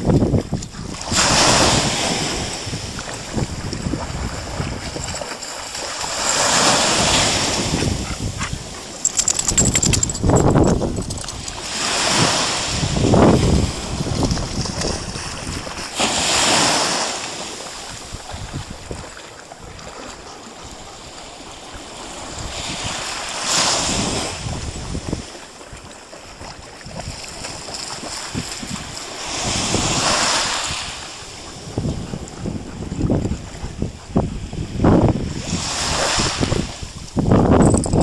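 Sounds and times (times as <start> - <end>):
sea washing in shallows: 0.0 - 38.0
wind gusts on microphone: 0.0 - 38.0.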